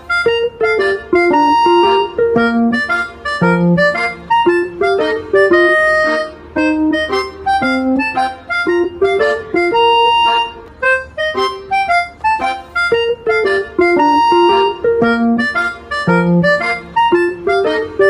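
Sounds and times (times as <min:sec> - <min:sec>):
instrumental tune of quick notes: 0:00.0 - 0:18.0.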